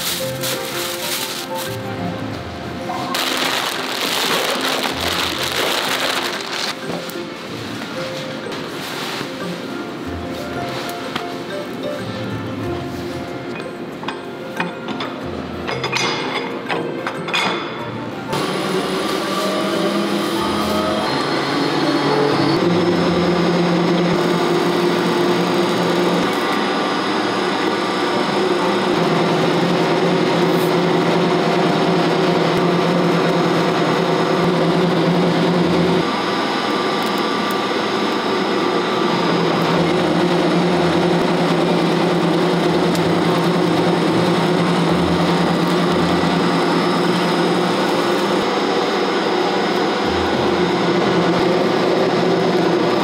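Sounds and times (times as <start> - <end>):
roll mill mechanical drone: 0.0 - 15.9, 16.7 - 53.0.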